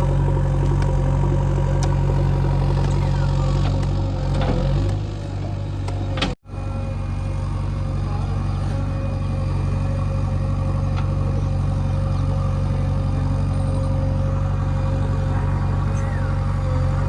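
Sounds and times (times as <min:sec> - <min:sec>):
heavy diesel engine rumble: 0:00.0 - 0:17.0.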